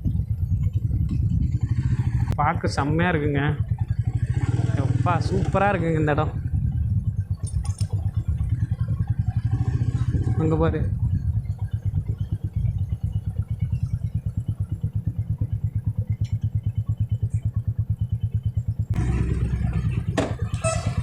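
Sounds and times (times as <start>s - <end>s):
motorcycle engine thumping: 0.0s - 21.0s.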